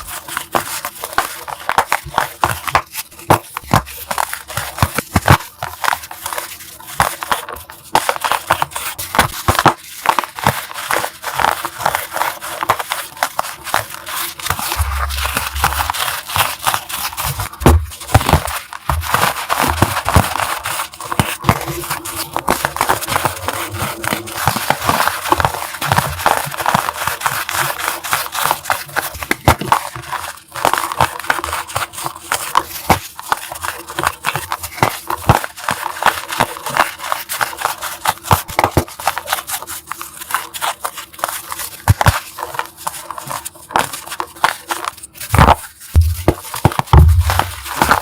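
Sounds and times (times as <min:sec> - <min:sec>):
dry material crunching: 0:00.0 - 0:48.0.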